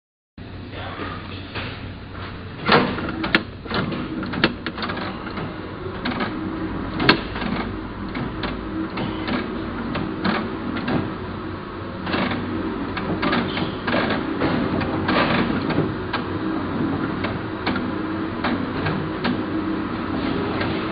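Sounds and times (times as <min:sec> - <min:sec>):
press mechanical hum: 0:00.4 - 0:20.9
press clacking and clatter: 0:02.6 - 0:11.3, 0:11.9 - 0:20.9.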